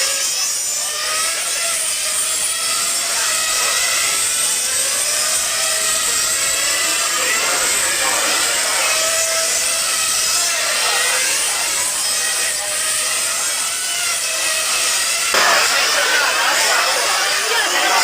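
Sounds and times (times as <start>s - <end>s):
small engines screaming at high revs: 0.0s - 18.0s.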